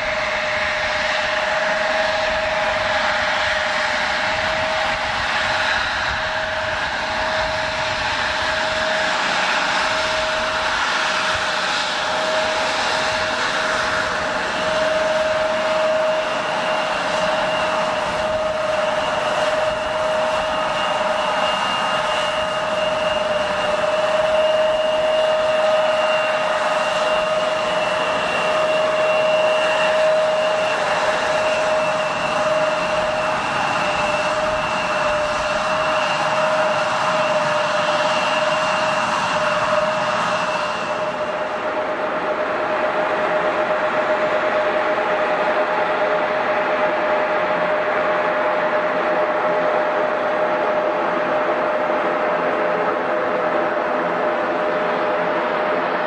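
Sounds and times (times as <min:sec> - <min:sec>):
jet engines whining at idle: 0:00.0 - 0:56.0.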